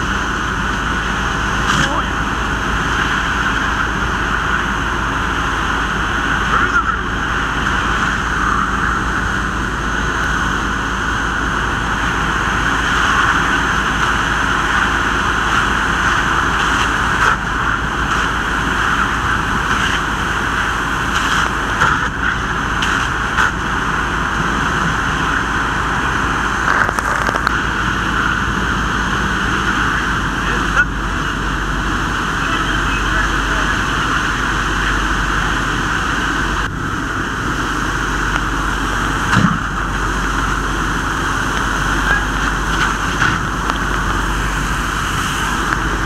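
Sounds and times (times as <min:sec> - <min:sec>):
fire hose water hissing: 0:00.0 - 0:46.0.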